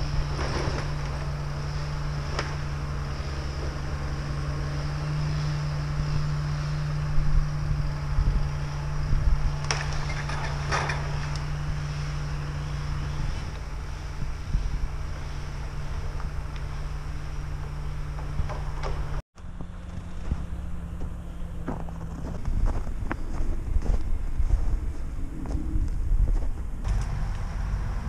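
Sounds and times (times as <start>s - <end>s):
distant diesel engine drone: 0.0s - 28.0s.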